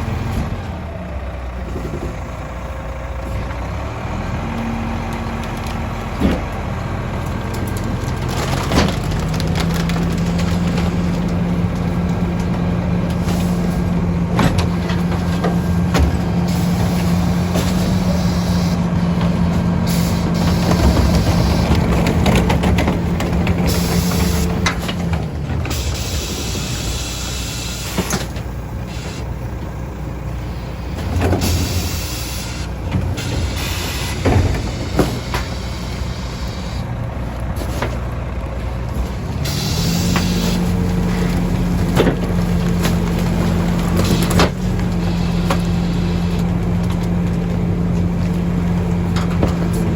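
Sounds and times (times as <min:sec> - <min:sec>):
garbage truck engine humming: 0:00.0 - 0:49.9.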